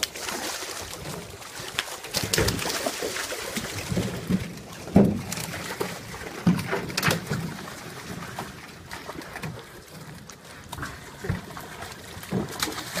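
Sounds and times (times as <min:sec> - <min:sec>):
fish splashing: 0:00.0 - 0:13.0
water lapping: 0:00.0 - 0:13.0.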